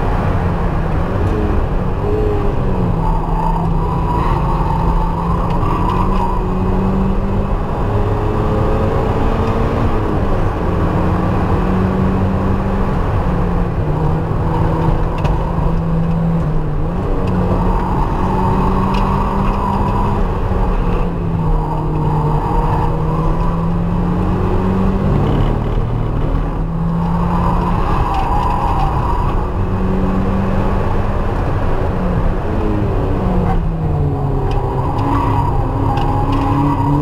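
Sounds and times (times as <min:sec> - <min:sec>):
car engine revving hard: 0:00.0 - 0:37.0
wind and road noise: 0:00.0 - 0:37.0.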